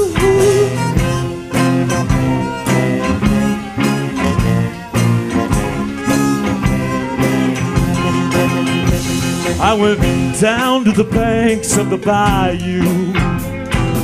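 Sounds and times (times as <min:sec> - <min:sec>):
guitar: 0:00.0 - 0:14.0
harmonica: 0:00.0 - 0:14.0.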